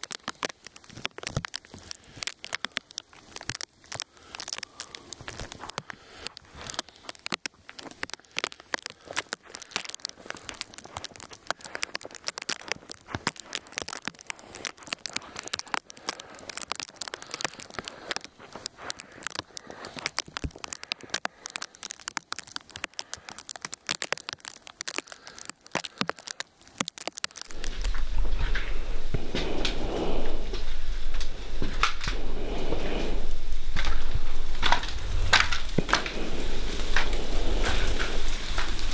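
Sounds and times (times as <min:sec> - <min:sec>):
sleet and ice pellets pattering: 0:00.0 - 0:38.9.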